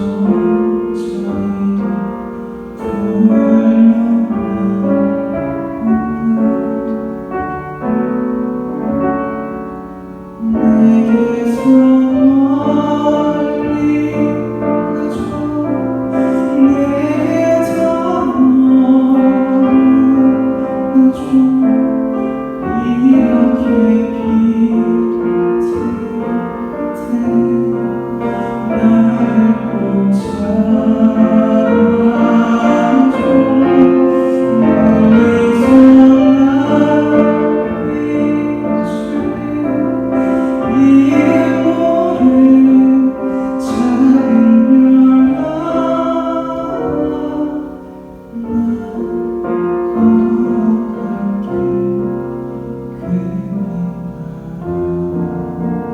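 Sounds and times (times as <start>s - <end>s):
man singing a slow ballad: 0.0s - 8.7s, 10.2s - 55.9s
piano accompaniment: 0.0s - 55.9s.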